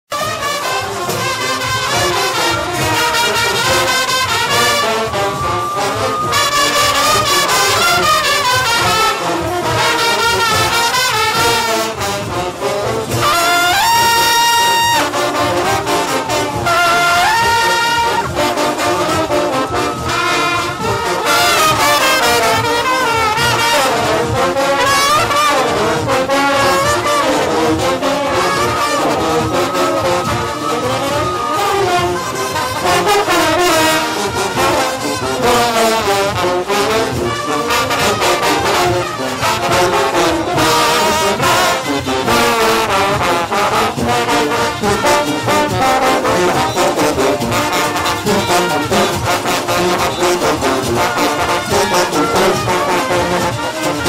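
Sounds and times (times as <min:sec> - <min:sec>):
brass horns playing melody: 0:00.1 - 0:54.0
fast dense percussion: 0:00.1 - 0:54.0.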